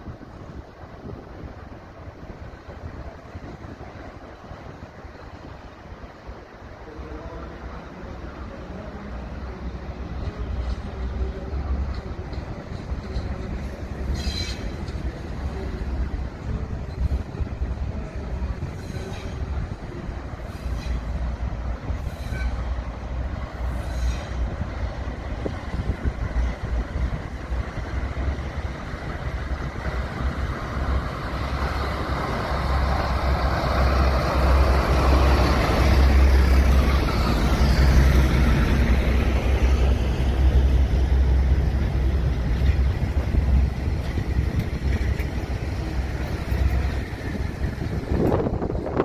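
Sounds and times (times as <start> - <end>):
diesel locomotives rumbling past: 0.0 - 49.0.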